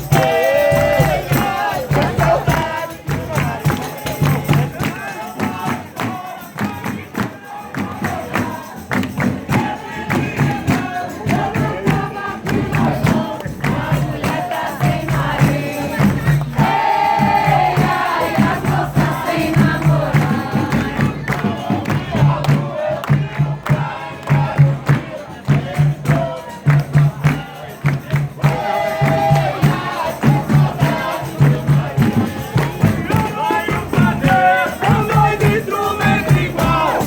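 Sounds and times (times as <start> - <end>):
hand percussion beat: 0.0 - 37.0
voices singing together: 0.0 - 37.0.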